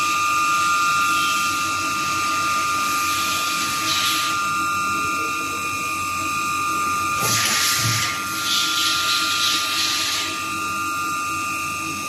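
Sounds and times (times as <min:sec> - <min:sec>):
machine tool high-pitched whine: 0:00.0 - 0:12.0.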